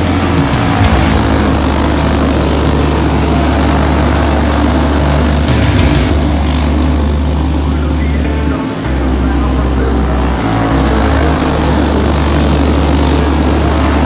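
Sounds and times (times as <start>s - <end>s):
racing kart engines buzzing: 0.0s - 14.0s.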